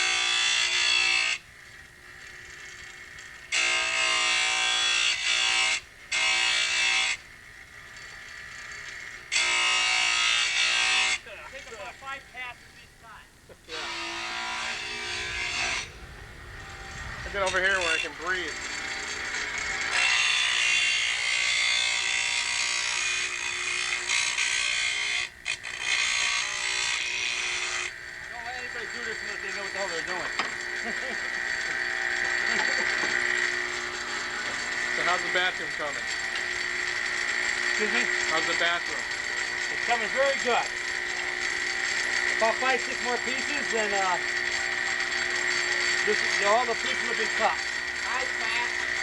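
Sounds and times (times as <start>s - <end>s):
power saw cutting tile: 0.0s - 12.5s, 13.5s - 49.0s
saw motor humming: 0.0s - 49.0s.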